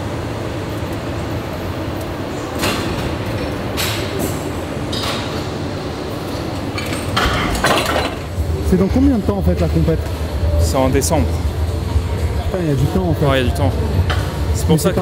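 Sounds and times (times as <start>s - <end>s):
low gym hum: 0.0s - 15.0s.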